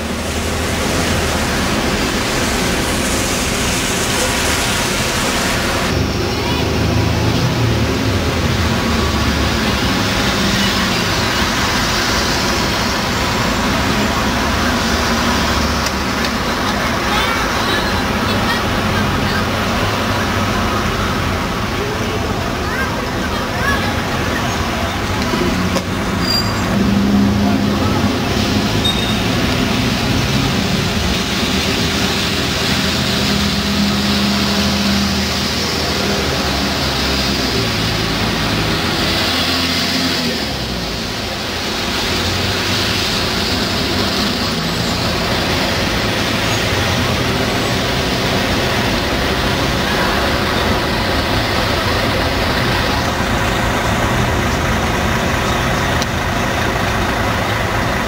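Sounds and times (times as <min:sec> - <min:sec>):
bus engines humming: 0:00.0 - 0:58.0
tyres hissing on wet road: 0:00.0 - 0:58.0.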